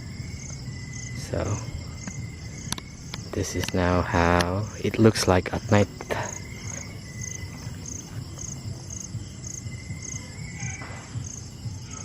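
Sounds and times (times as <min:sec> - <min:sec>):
crickets chirping: 0:00.0 - 0:12.0
faint steady background: 0:00.0 - 0:12.0.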